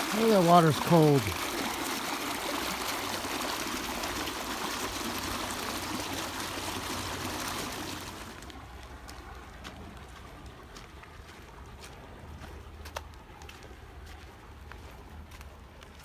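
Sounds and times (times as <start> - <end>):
water rushing and trickling: 0.0 - 15.0.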